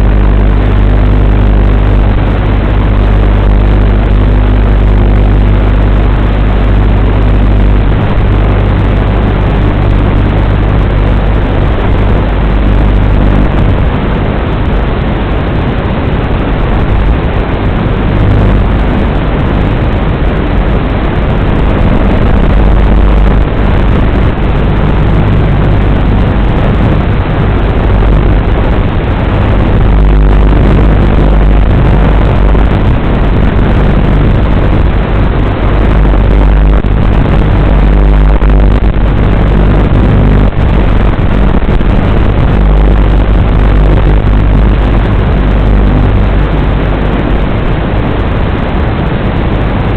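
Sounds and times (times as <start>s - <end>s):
low hum: 0.0s - 49.9s.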